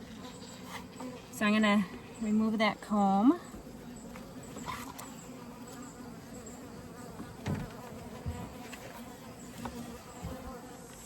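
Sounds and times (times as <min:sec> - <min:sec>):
honeybees buzzing: 0:00.0 - 0:11.0
knocks and scrapes on hive: 0:00.0 - 0:11.0.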